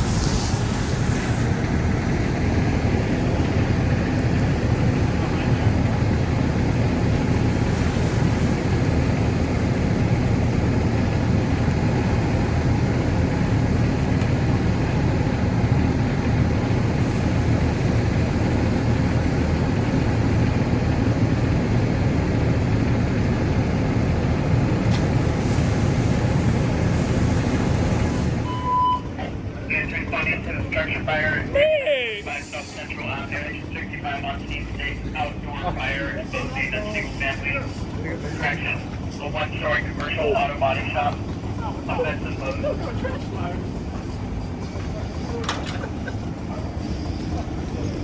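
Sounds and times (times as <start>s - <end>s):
fire engine running: 0.0s - 48.0s.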